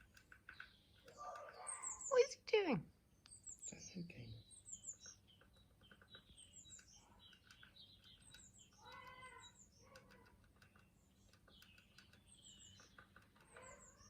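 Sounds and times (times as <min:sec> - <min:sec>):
faint birdsong: 0:00.0 - 0:14.0.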